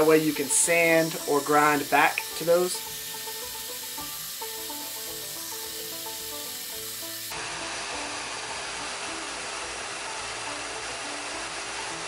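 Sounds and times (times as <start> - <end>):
background music melody: 0.0 - 12.0
bandsaw cutting plastic sheet: 0.0 - 12.0.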